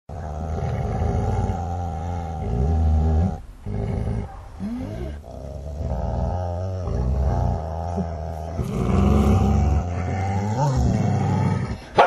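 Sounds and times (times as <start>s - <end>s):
dogs growling and snarling: 0.1s - 12.0s.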